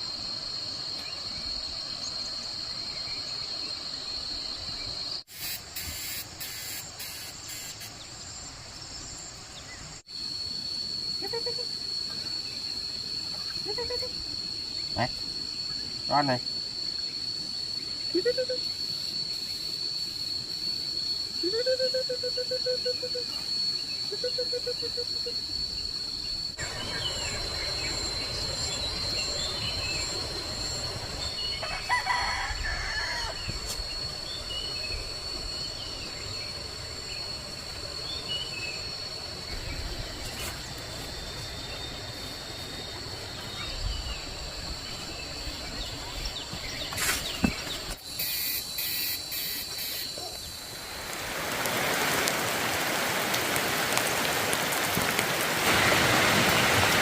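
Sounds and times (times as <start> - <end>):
steady high-pitched whine: 0.0 - 51.2.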